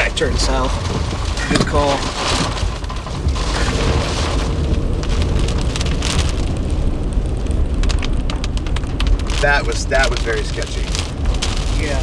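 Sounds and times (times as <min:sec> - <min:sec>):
heavy rain drumming on a car: 0:00.0 - 0:12.0
low thunder rumble: 0:00.0 - 0:12.0
raindrops ticking: 0:00.0 - 0:12.0.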